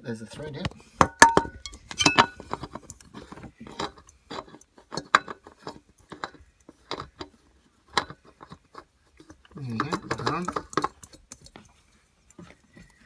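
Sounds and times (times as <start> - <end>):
oil filter clicks and metallic clinks: 0.4 - 11.7.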